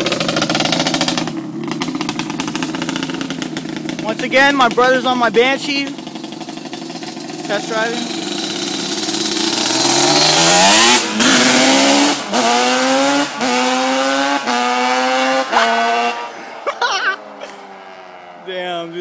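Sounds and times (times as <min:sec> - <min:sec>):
two-stroke engine accelerating: 0:00.0 - 0:19.0.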